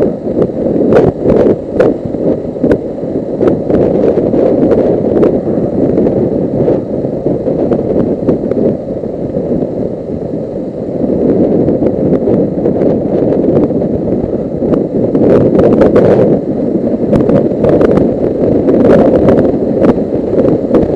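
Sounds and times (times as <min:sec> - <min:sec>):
wind rushing over microphone: 0:00.0 - 0:20.9.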